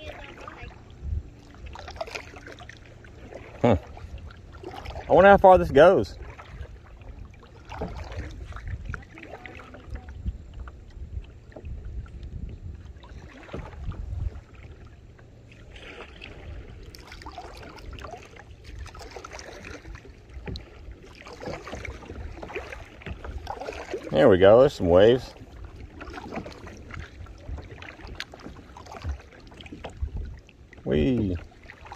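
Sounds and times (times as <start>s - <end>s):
kayak paddle splashing: 0.0s - 31.9s.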